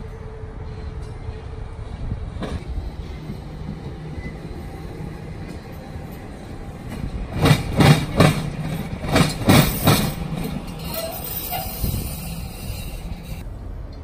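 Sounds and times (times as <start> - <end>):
streetcar rumble: 0.0 - 14.0
streetcar wheels clunking on track: 0.6 - 14.0.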